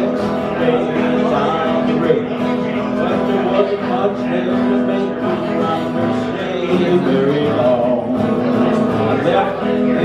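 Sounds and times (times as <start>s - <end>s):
acoustic guitars playing country: 0.0s - 10.0s.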